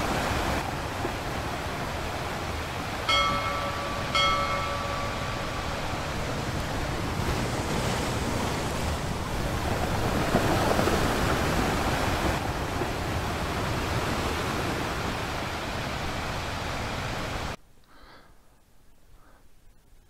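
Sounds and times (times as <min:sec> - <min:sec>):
sea waves on a shore: 0:00.0 - 0:17.6.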